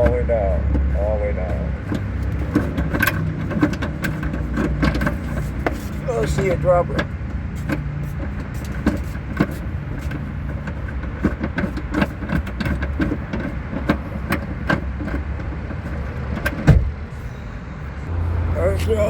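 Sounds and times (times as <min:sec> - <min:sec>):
winch metallic clicks and knocks: 0:01.8 - 0:17.3.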